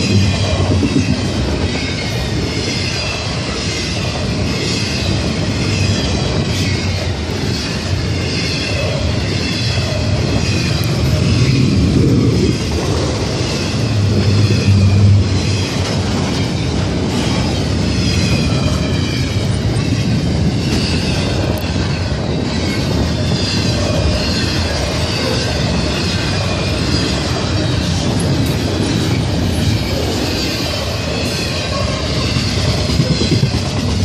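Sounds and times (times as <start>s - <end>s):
high wheel squeal: 0.0s - 34.0s
train wheels rumbling on rail: 0.0s - 34.0s
wheels clickety-clack: 0.0s - 34.0s.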